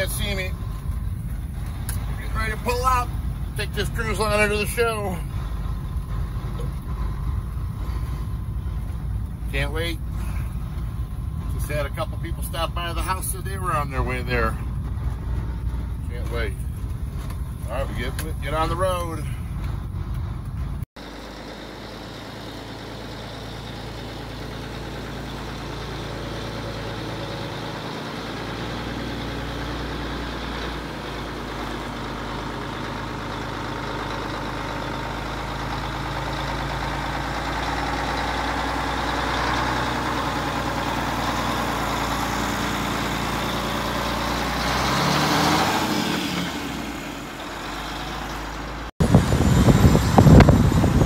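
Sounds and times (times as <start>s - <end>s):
truck diesel engine running: 0.0s - 51.0s.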